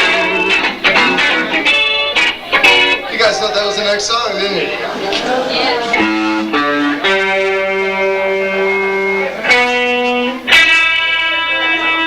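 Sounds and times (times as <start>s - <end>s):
electric guitar held notes: 0.0s - 3.1s, 4.7s - 12.0s.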